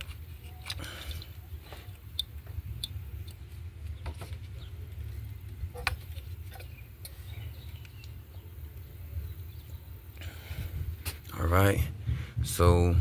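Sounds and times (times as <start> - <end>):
steady low rumble: 0.2 - 13.0.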